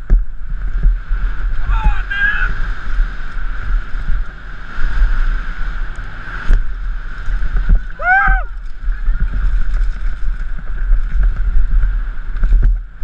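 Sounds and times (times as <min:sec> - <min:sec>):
bike rattling over trail: 0:00.0 - 0:13.0
wind buffeting on microphone: 0:00.0 - 0:13.0.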